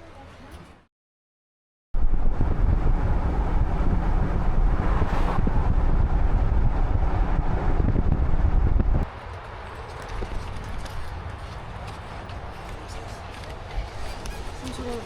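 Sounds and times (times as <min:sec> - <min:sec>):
vehicle running: 0:02.0 - 0:15.0
wind buffeting microphone: 0:02.0 - 0:15.0.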